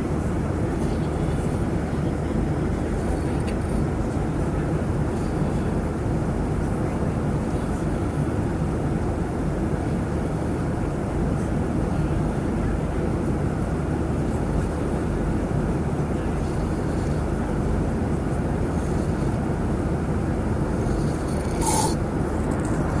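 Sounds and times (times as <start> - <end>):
airliner cabin drone: 0.0 - 23.0.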